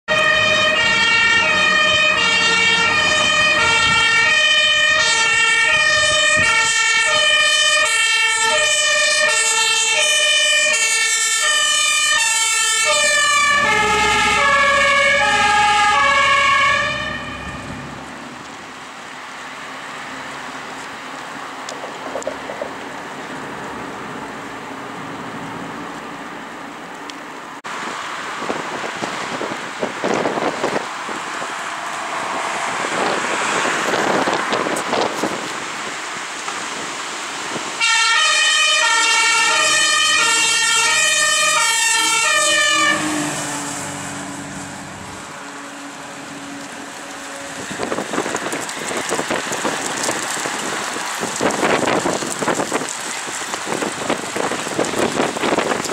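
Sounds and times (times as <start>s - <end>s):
engine and road noise: 0.0s - 55.9s
two-tone fire engine siren: 0.1s - 19.1s, 28.4s - 55.9s.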